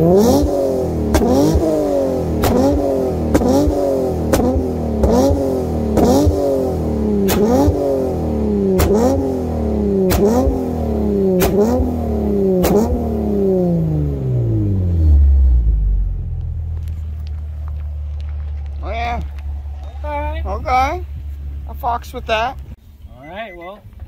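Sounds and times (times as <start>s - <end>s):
car engine idling: 0.0s - 22.8s
car engine revving: 0.0s - 22.8s.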